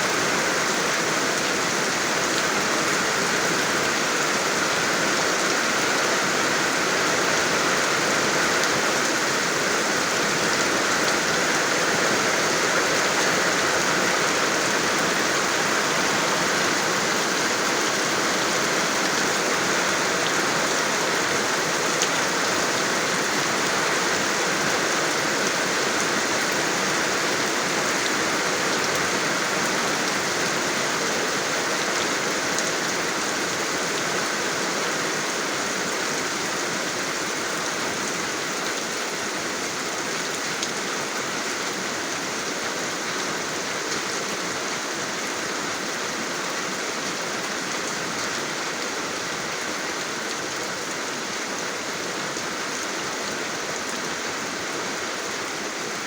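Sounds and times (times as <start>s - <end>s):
rain pattering on surfaces: 0.1s - 54.7s.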